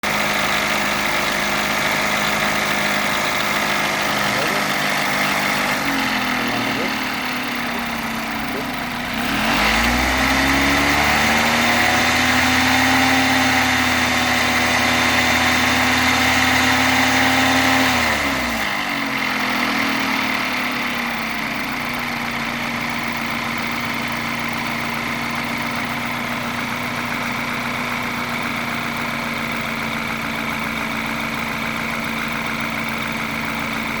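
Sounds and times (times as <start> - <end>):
car engine revving and idling: 0.0 - 34.0.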